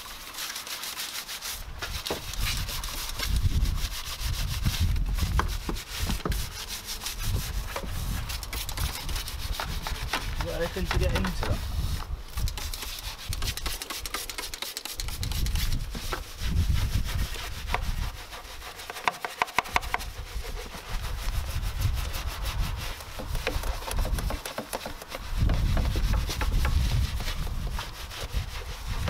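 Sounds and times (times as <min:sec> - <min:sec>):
brushes scrubbing engine parts: 0:00.0 - 0:29.0.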